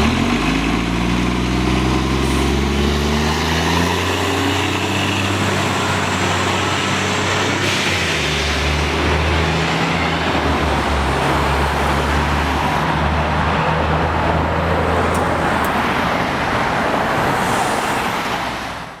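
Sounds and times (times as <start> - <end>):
diesel coach engine running: 0.0 - 17.4
road and traffic noise: 0.0 - 19.0.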